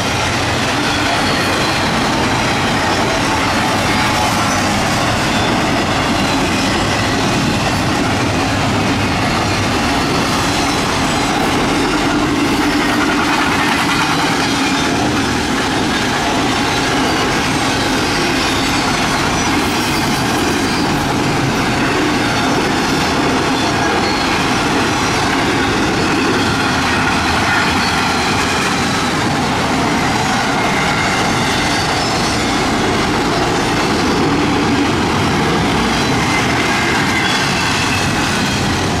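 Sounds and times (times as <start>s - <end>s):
freight cars rattling: 0.0s - 39.0s
freight train wheels rolling: 0.0s - 39.0s.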